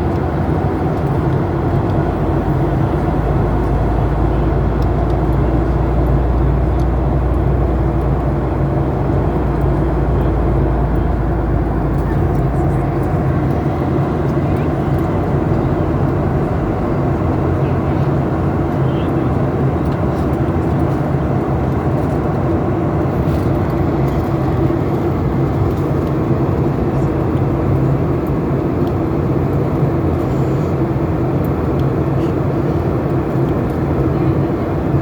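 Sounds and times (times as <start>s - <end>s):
jet engines droning: 0.0s - 35.0s.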